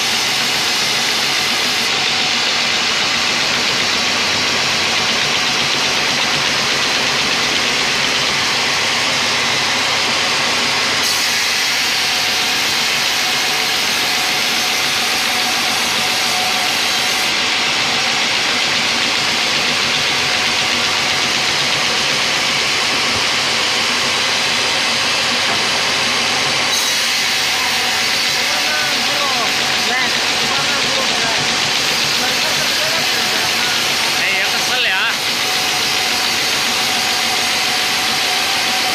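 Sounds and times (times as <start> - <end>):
band saw cutting log: 0.0 - 38.9
machine running: 0.0 - 38.9.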